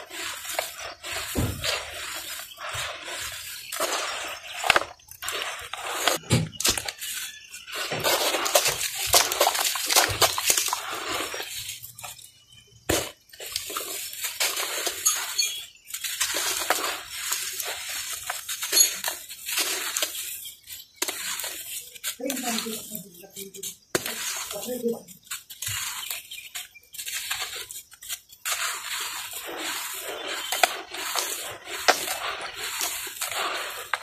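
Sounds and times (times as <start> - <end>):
hands squelching wet dirt: 0.0 - 34.0.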